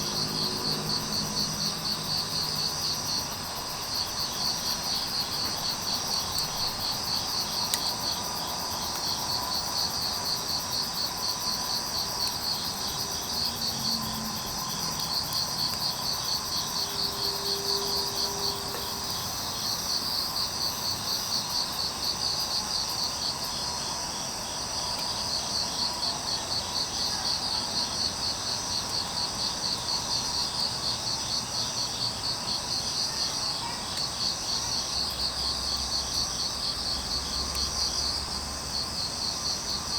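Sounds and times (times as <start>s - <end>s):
crickets chirping: 0.0s - 39.9s
low insect tone: 0.0s - 39.9s.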